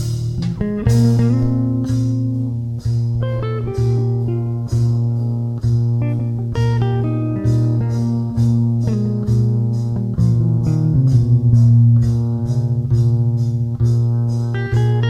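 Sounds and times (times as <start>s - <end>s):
plucked guitar notes: 0.0s - 15.0s
sustained bass: 0.0s - 15.0s.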